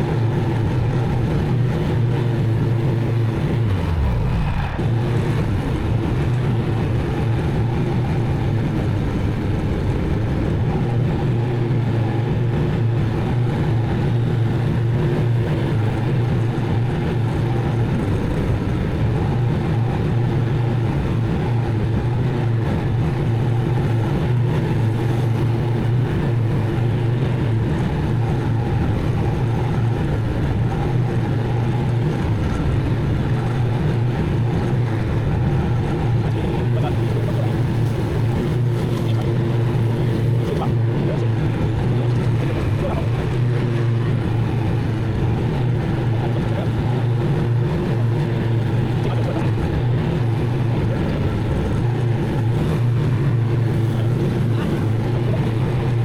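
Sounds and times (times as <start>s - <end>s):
mower engine running: 0.0s - 56.0s.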